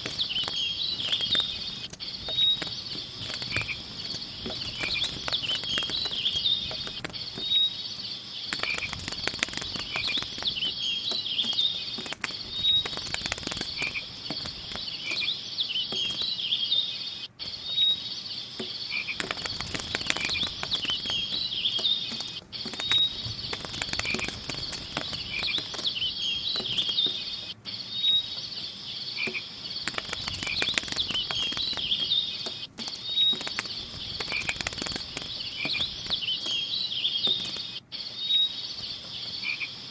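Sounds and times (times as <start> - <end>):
crackly clicks: 0.0 - 16.6, 17.2 - 39.9
chirping and croaking calls: 0.0 - 39.9.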